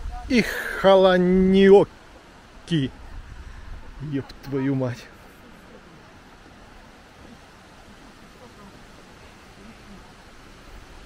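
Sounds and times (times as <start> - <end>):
steady outdoor hiss: 0.0 - 11.0
faint voices talking: 1.7 - 11.0.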